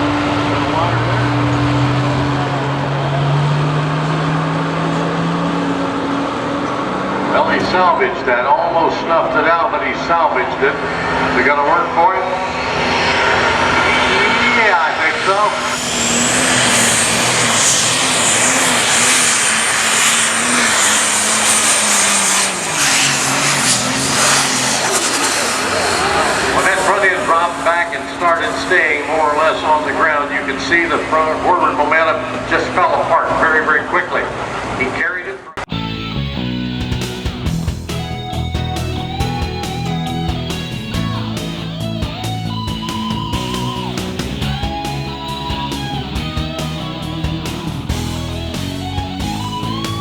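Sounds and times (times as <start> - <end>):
tractor engine running hard: 0.0 - 50.0.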